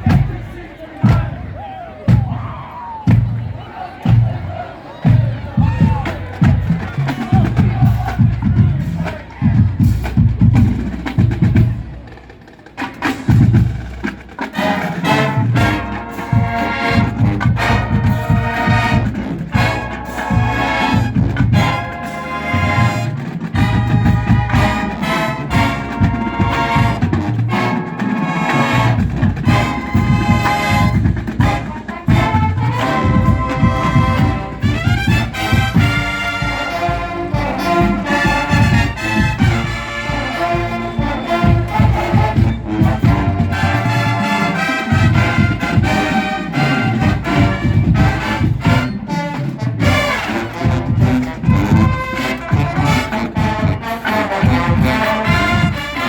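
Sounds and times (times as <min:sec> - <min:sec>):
brass chords: 0:00.0 - 0:02.5, 0:03.1 - 0:56.0
marching band playing: 0:00.0 - 0:56.0.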